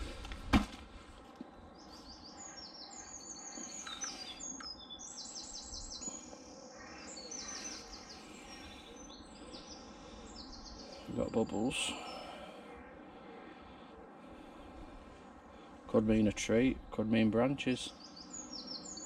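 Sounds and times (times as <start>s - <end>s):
low steady background noise: 0.0s - 19.0s
songbirds chirping in trills: 0.0s - 19.0s.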